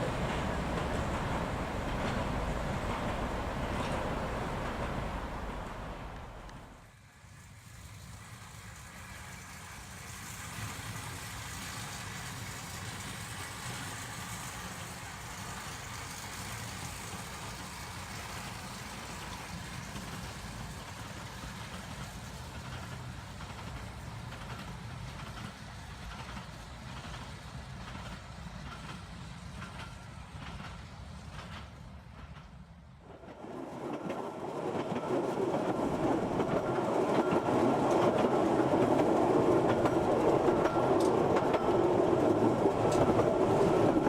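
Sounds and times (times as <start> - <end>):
wheels clicking on rail joints: 0.0 - 6.8, 8.0 - 44.0
park train rumbling: 0.0 - 44.0.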